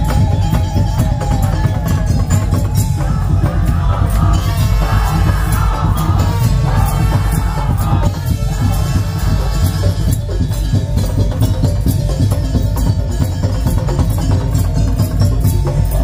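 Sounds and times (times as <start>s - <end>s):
heavy drumming: 0.0s - 16.0s.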